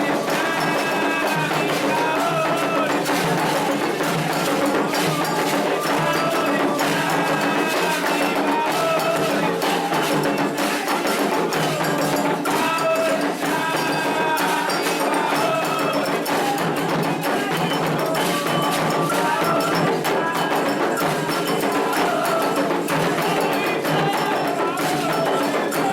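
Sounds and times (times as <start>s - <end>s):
hand drums: 0.0s - 25.9s
metal bell rhythm: 0.0s - 25.9s
voices chanting: 0.0s - 25.9s.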